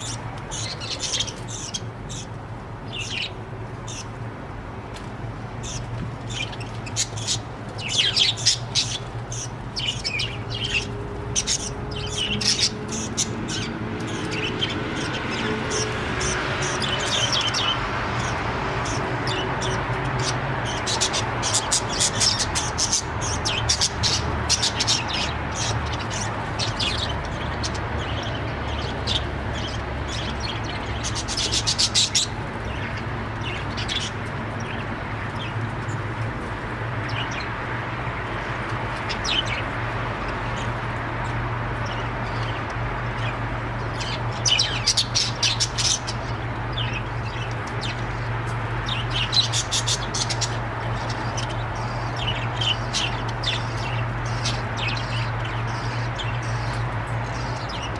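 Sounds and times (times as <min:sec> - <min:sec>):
budgerigars chirping: 0:00.0 - 0:04.2, 0:05.5 - 0:37.7, 0:38.3 - 0:57.9.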